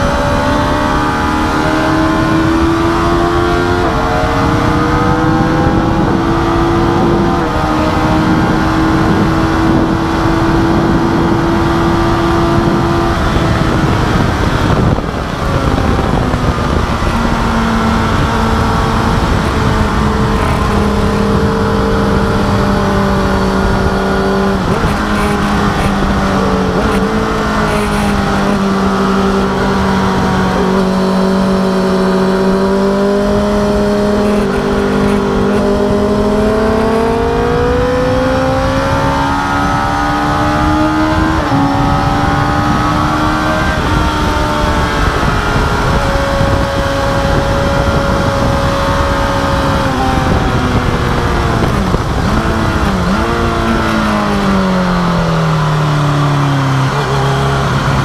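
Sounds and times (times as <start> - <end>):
motorcycle engine at high revs: 0.0 - 58.0
wind rush: 0.0 - 58.0.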